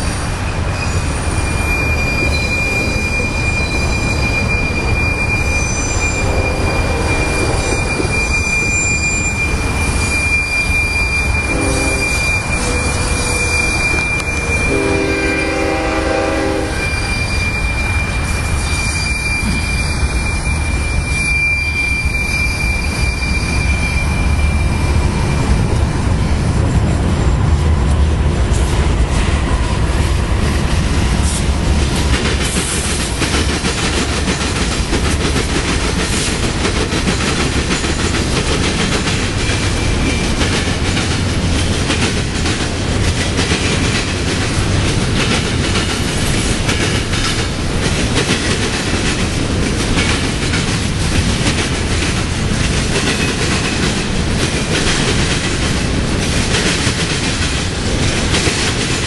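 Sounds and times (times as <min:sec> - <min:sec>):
diesel locomotives rumbling: 0:00.0 - 0:59.0
train wheels clattering on rails: 0:00.0 - 0:59.0.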